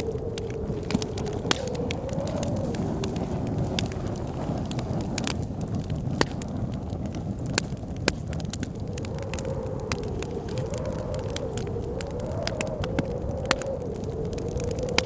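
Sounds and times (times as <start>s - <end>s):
blizzard wind howling: 0.0s - 15.0s
wood fire crackling and popping: 0.0s - 15.0s.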